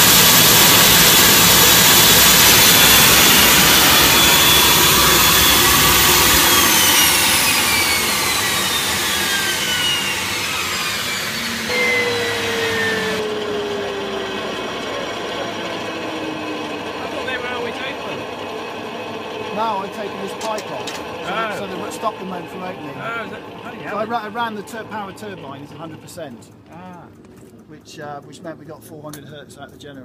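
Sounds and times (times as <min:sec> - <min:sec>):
low falling tone: 0:00.0 - 0:25.3
gas turbine whining: 0:00.0 - 0:28.3.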